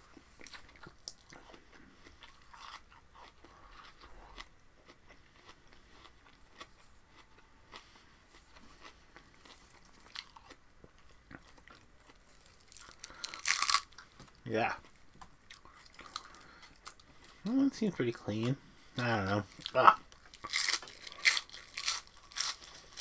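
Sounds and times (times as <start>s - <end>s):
chewing raw vegetables: 0.1s - 17.5s, 18.4s - 23.0s.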